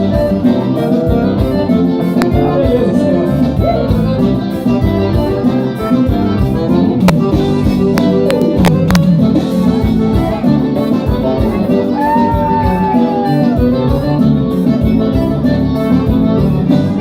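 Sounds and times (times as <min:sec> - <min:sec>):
band playing instrumental: 0:00.0 - 0:17.0.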